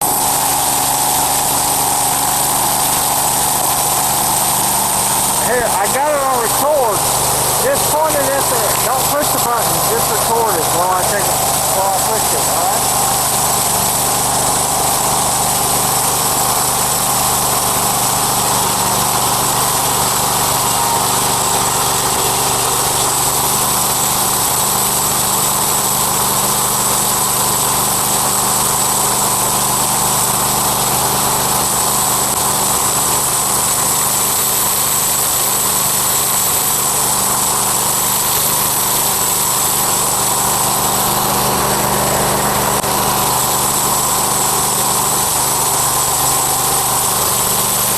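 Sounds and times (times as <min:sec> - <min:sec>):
small gasoline engine running: 0:00.0 - 0:47.9.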